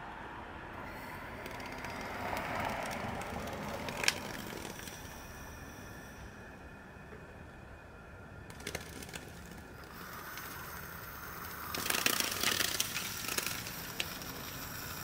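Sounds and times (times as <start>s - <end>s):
steady hiss: 0.8s - 15.0s.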